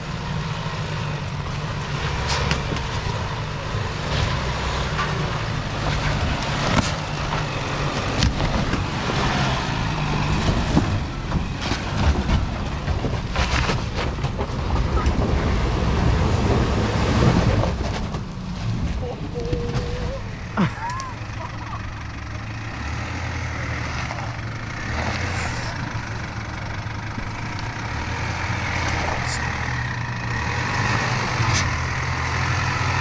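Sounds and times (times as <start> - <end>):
vehicle engine low rumble: 0.0 - 33.0.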